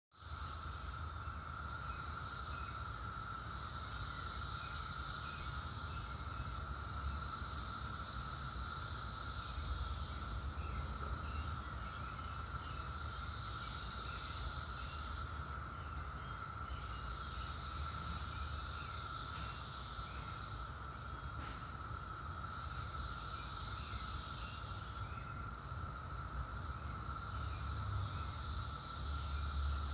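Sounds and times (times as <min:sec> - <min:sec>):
cicadas buzzing: 0:00.1 - 0:29.9.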